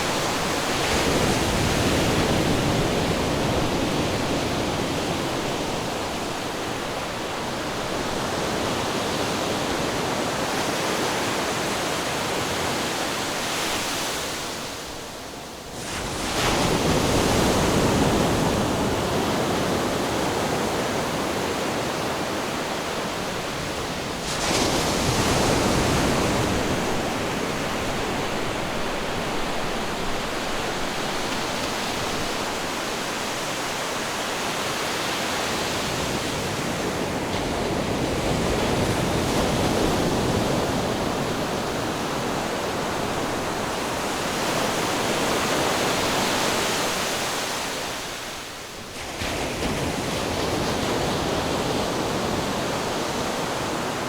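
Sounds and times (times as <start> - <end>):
ocean waves washing: 0.0 - 14.8, 15.8 - 54.0.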